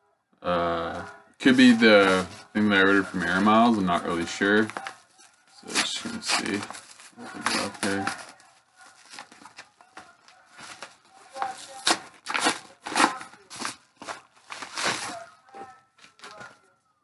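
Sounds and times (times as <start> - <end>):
paper mailer crinkling and tearing: 1.4 - 16.6.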